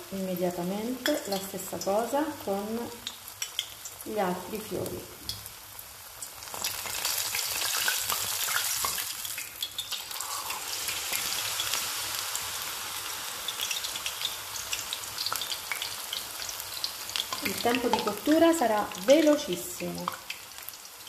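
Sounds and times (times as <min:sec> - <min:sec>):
deep-frying sizzle with crackles: 0:00.0 - 0:21.0.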